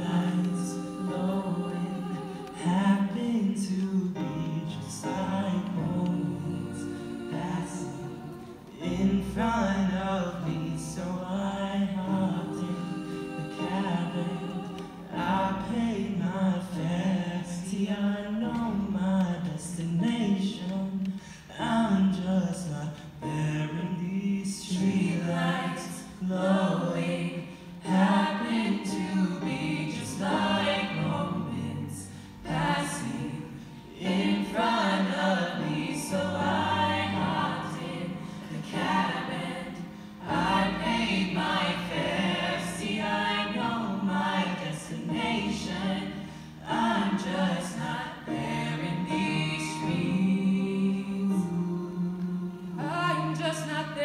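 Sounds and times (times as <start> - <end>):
keyboard: 0.0 - 54.0
vocal group singing in harmony: 0.0 - 54.0.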